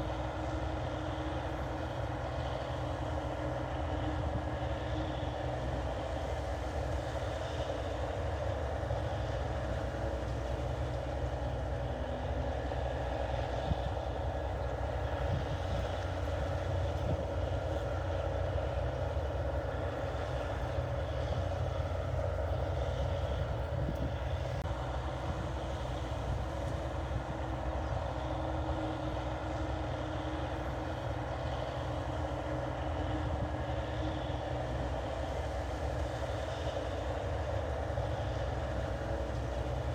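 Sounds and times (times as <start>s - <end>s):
combine harvester engine drone: 0.0s - 39.9s
machinery humming: 7.8s - 39.9s.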